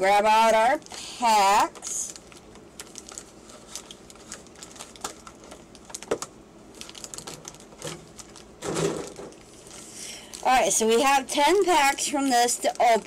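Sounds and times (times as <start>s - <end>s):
card packs rustling: 0.7s - 13.0s.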